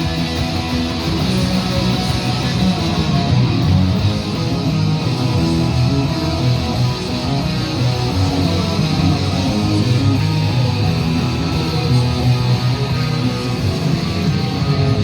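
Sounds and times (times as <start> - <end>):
rock guitar strumming: 0.0 - 15.0.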